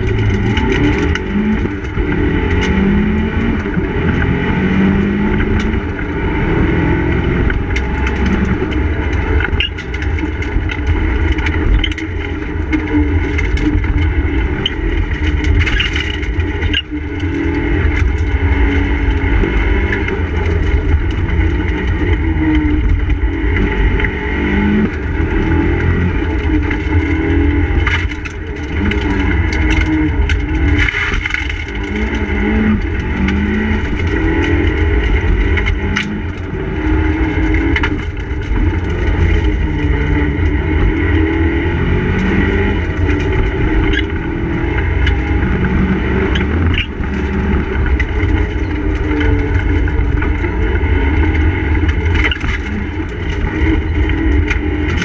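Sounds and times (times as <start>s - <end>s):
car engine revving through gears: 0.0s - 55.0s
heavy rumble: 0.0s - 55.0s.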